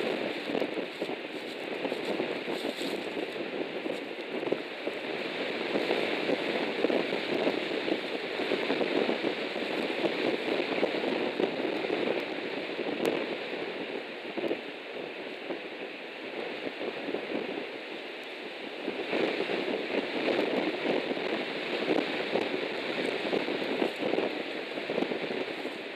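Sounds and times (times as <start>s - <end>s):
strong gusty wind roaring: 0.0s - 25.9s.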